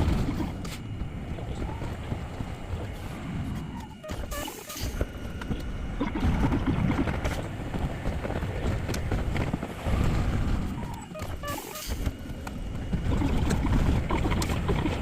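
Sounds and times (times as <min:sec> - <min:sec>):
streetcar rumbling and rattling: 0:00.0 - 0:15.0.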